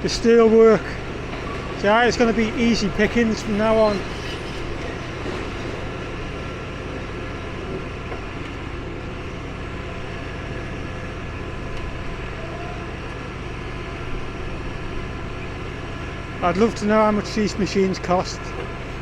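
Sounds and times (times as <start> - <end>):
excavator engine humming: 0.0 - 19.0.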